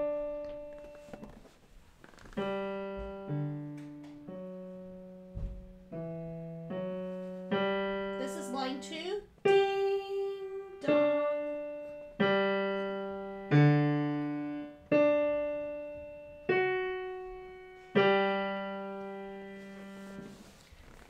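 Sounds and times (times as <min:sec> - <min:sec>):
digital piano notes: 0:00.0 - 0:01.6, 0:02.3 - 0:20.5.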